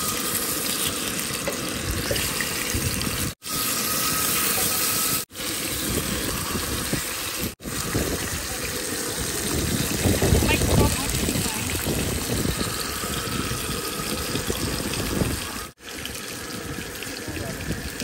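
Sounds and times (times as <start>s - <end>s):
fish sizzling in a frying pan: 0.0s - 17.9s.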